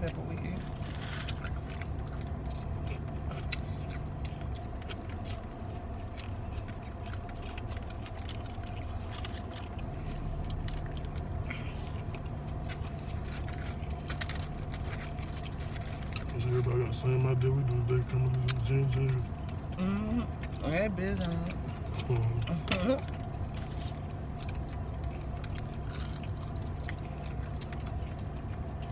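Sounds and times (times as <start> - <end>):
car hum: 0.0 - 28.9
chewing and smacking: 0.0 - 28.9.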